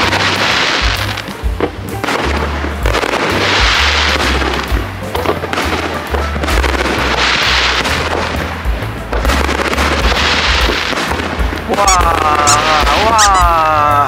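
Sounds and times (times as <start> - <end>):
background music: 0.0 - 14.0
fireworks bursting and crackling: 0.0 - 14.0.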